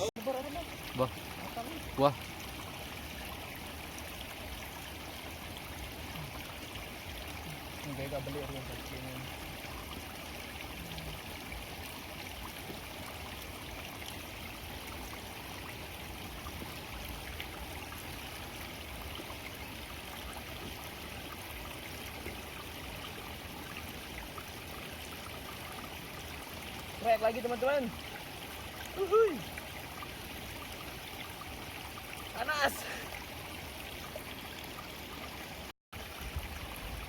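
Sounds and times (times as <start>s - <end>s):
running water: 0.0s - 37.0s.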